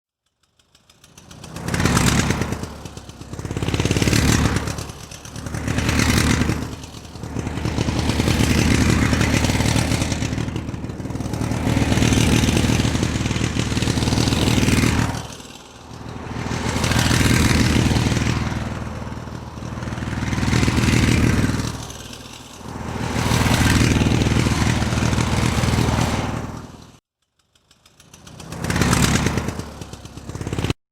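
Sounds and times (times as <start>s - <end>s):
motor revving: 1.0s - 27.0s, 28.1s - 30.8s.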